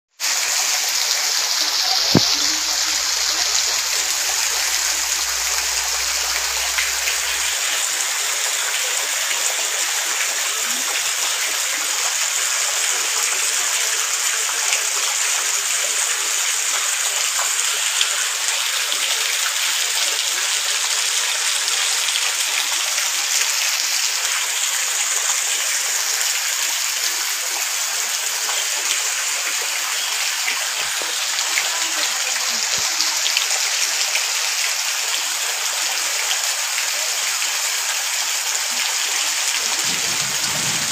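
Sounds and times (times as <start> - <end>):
roof runoff splashing: 0.2 - 35.2, 36.6 - 40.9
heavy rain on wet ground: 0.2 - 40.9.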